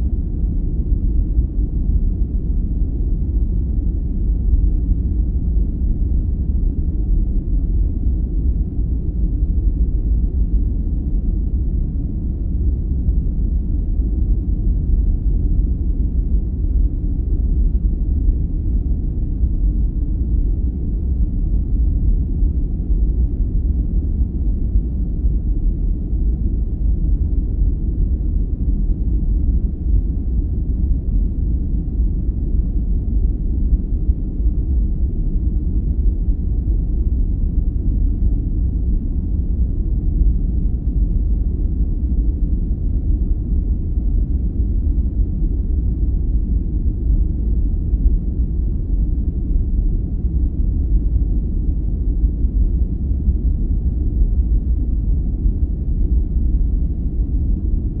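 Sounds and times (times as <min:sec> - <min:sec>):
deep rumbling white noise: 0:00.0 - 0:58.0.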